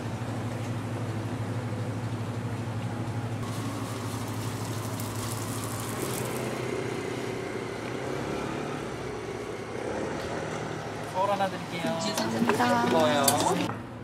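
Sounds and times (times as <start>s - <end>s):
low city hum: 0.0s - 14.0s
traffic: 0.0s - 14.0s.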